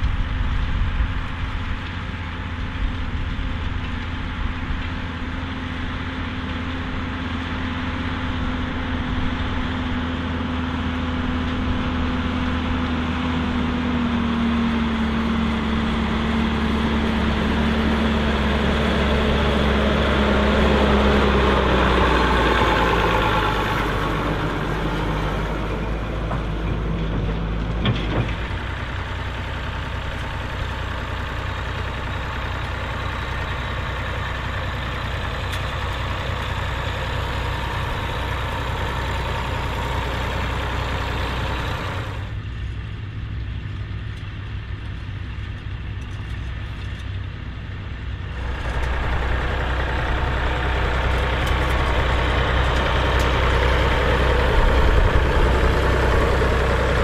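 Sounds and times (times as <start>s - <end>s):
low engine sound: 0.0s - 57.0s
tractor diesel engine under load: 0.0s - 57.0s.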